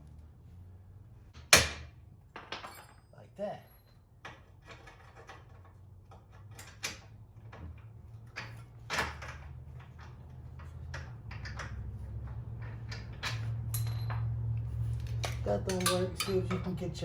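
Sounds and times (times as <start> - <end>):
metal parts knocking and clanking: 1.4 - 17.0.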